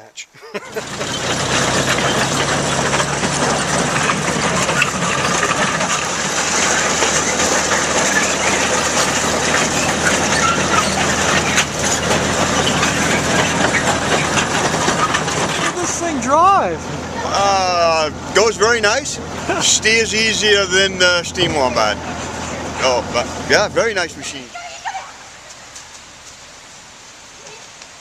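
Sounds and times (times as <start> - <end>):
engine running with clatter: 0.6 - 28.0.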